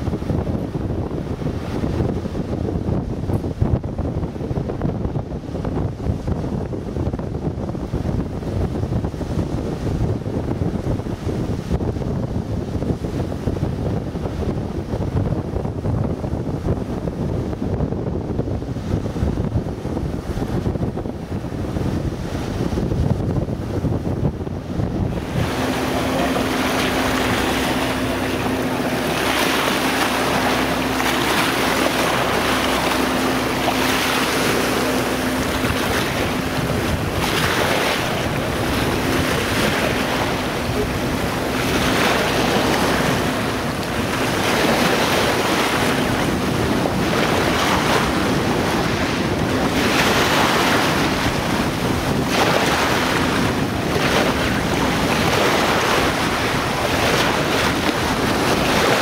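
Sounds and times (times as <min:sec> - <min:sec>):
waves washing: 0:00.0 - 0:59.0
wind buffeting microphone: 0:00.0 - 0:59.0.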